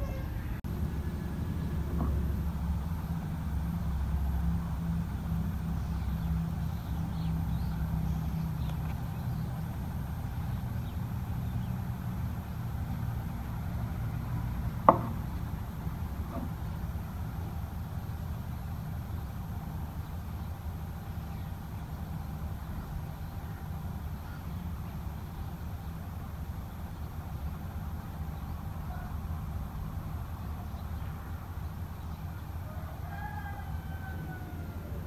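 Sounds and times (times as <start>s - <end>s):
low engine hum: 0.0s - 35.0s.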